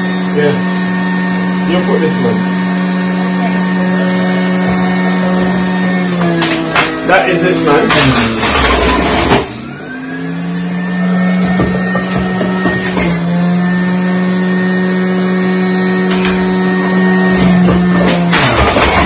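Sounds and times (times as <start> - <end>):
juicer grinding produce: 0.0 - 19.0
juicer motor whining: 0.0 - 19.0.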